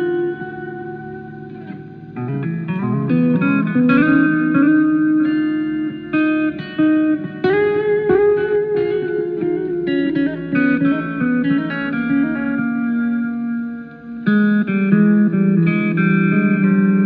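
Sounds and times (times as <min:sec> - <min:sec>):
guitar melody with bending notes: 0:00.0 - 0:17.0.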